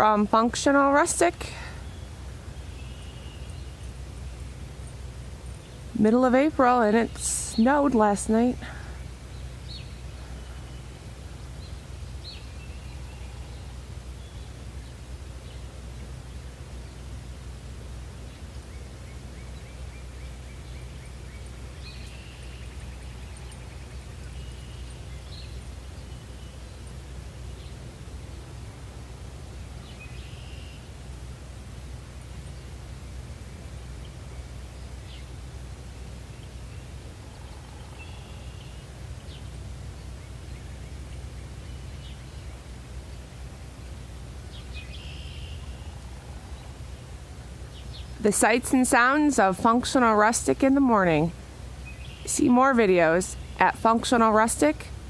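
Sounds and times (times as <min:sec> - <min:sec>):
songbirds chirping: 0:00.0 - 0:55.0
steady low rumble: 0:00.0 - 0:55.0.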